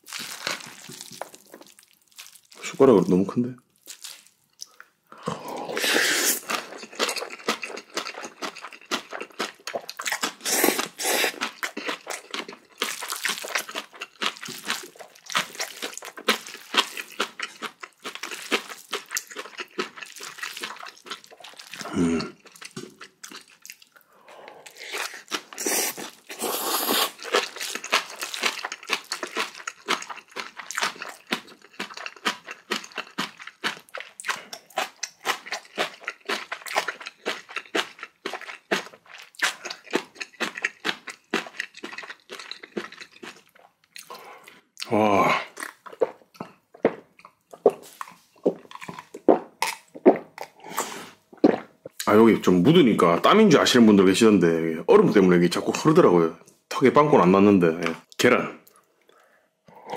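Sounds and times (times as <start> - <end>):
mouth chewing wet crunchy food: 0.0 - 52.2.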